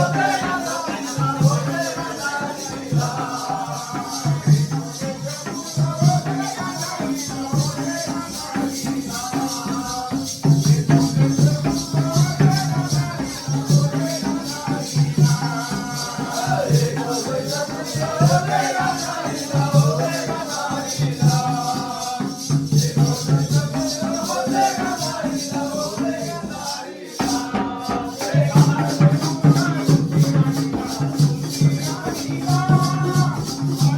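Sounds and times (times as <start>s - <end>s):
fast jingling rhythm: 0.0s - 33.9s
person singing folk song: 0.0s - 33.9s
pulsing drum beat: 0.0s - 33.9s.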